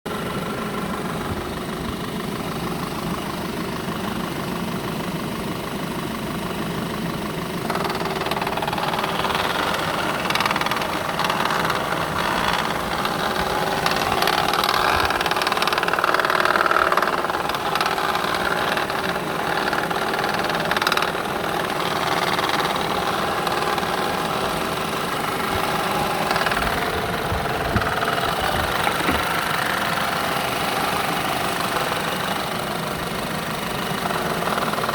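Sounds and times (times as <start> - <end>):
car engine knocking: 0.1 - 34.9.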